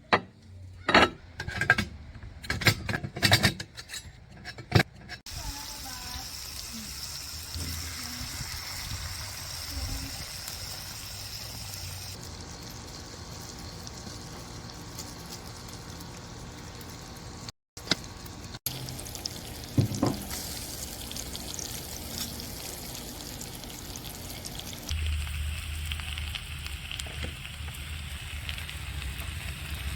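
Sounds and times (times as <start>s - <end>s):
food sizzling on grill: 5.3s - 29.9s.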